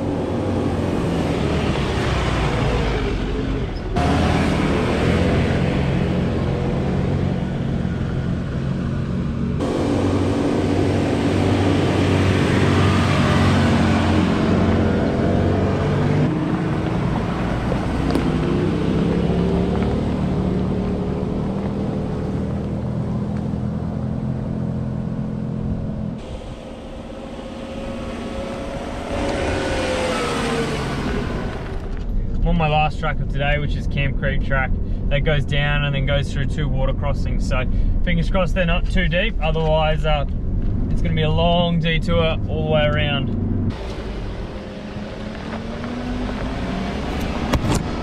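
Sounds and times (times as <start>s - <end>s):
vehicle engine running at low speed: 0.0s - 48.0s.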